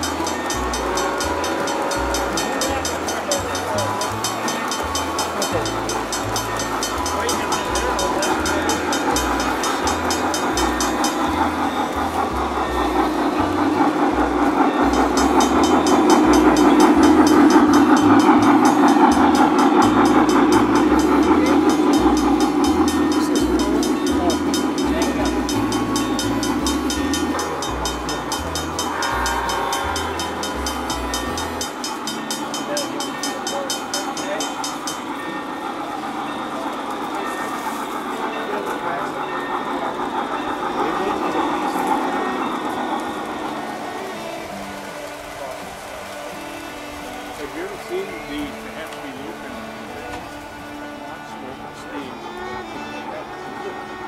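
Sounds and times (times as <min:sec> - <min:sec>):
toy train wheels rumbling: 0:00.0 - 0:54.0.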